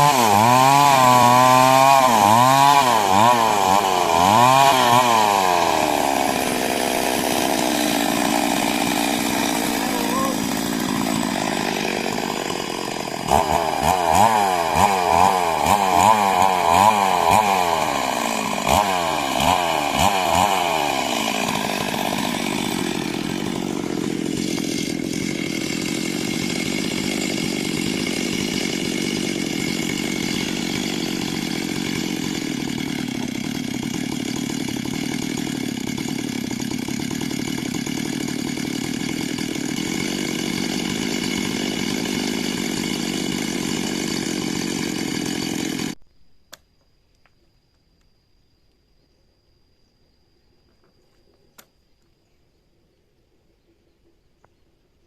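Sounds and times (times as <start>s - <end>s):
chainsaw revving and idling: 0.0s - 46.0s.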